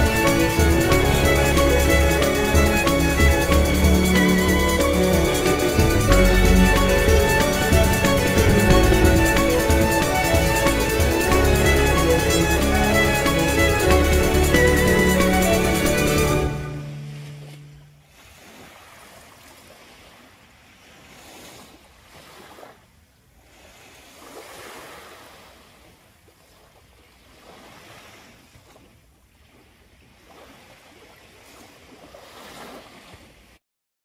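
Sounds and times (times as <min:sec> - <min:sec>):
waves washing onto beach: 0:00.0 - 0:33.6.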